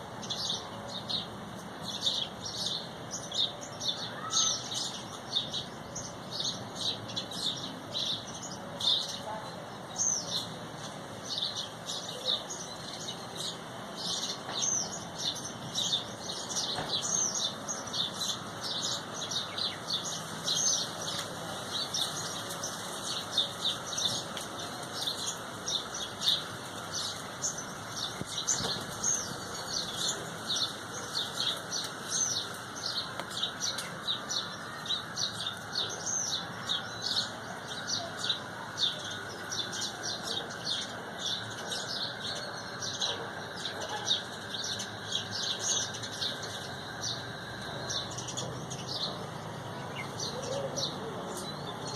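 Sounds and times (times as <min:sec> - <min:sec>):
flock of small birds chirping: 0:00.0 - 0:51.9.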